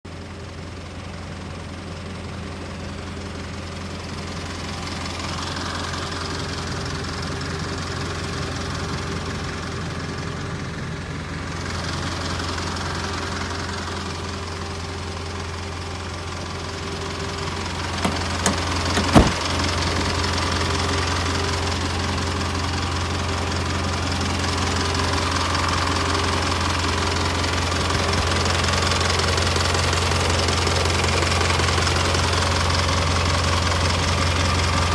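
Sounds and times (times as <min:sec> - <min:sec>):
truck engine idling: 0:00.8 - 0:34.9.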